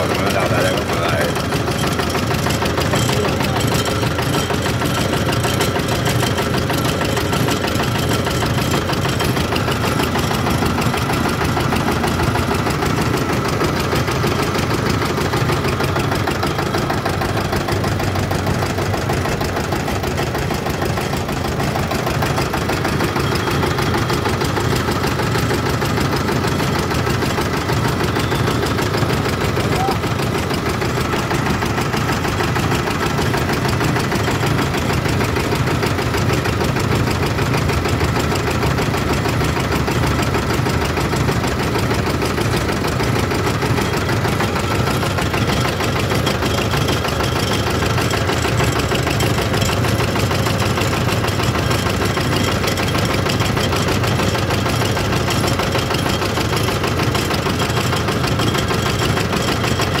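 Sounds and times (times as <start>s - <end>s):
extruding machine running: 0.0s - 60.0s.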